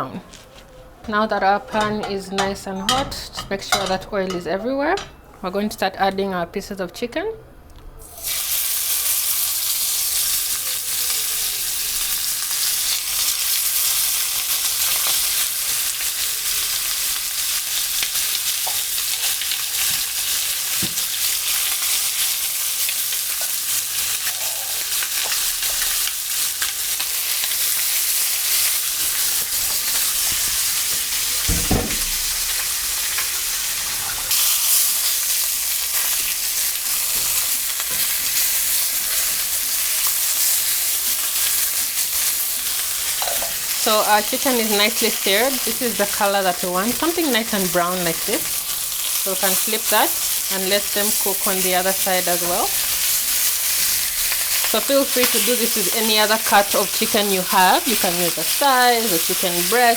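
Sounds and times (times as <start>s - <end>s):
meat sizzling in a frying pan: 8.0s - 59.9s.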